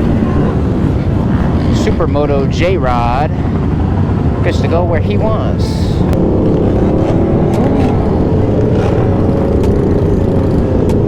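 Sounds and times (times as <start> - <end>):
road and wind noise: 0.0 - 11.0
vehicle engines in traffic: 0.0 - 11.0.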